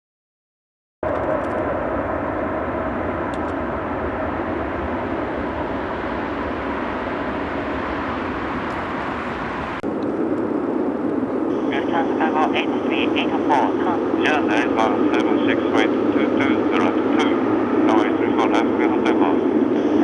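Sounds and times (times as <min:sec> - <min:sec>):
jet engines roaring: 0:01.0 - 0:20.0.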